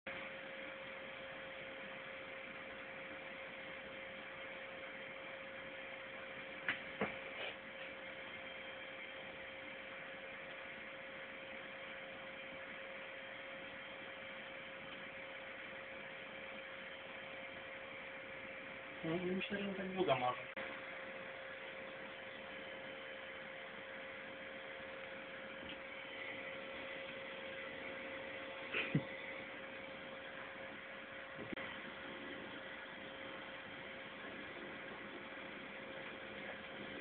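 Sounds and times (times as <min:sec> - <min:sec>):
faint electrical hum: 0:00.1 - 0:37.0.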